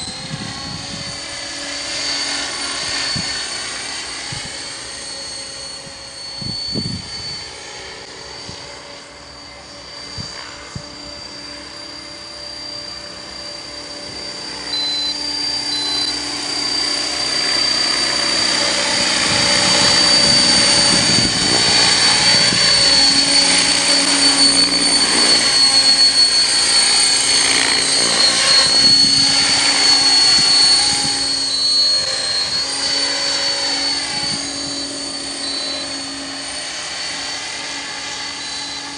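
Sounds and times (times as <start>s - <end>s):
helicopter rotor noise: 0.0s - 38.9s
high motor whine: 0.0s - 38.9s.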